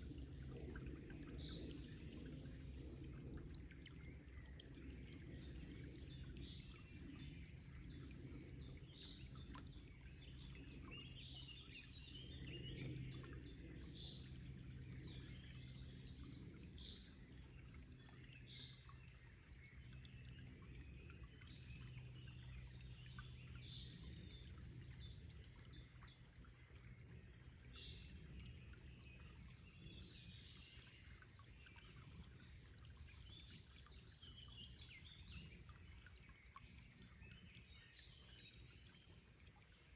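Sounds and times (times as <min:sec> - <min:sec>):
faint forest stream rushing: 0:00.0 - 0:39.9.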